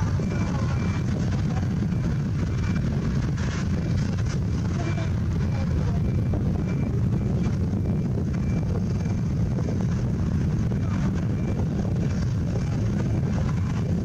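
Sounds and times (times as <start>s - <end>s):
faint high-pitched beeps: 0.0s - 3.1s, 4.6s - 14.0s
low outdoor rumble: 0.0s - 14.0s.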